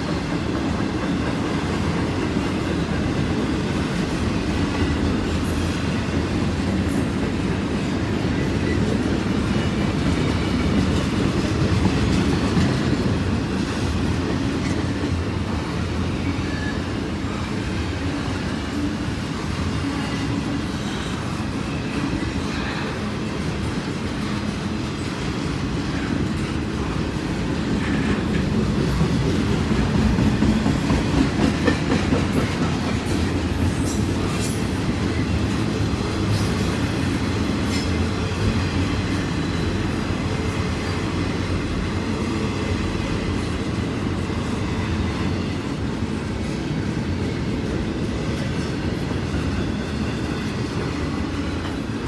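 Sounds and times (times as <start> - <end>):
steel wheels rumbling on rail: 0.0 - 52.0.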